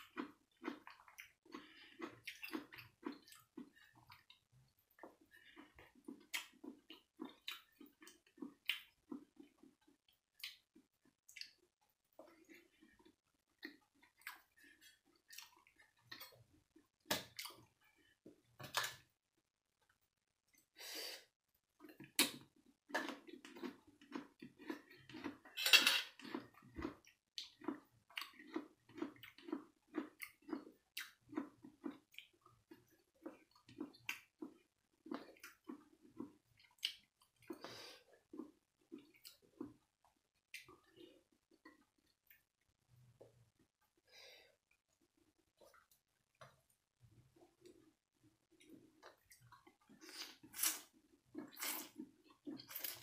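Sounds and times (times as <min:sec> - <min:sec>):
person chewing: 0:00.0 - 0:18.9, 0:21.8 - 0:42.5, 0:48.5 - 0:53.0.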